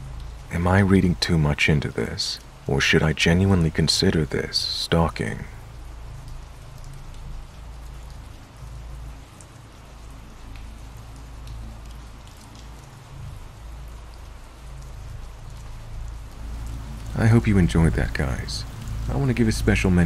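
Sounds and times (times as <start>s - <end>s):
raindrop ticks: 0.0s - 20.0s
steady rainfall: 0.0s - 20.0s.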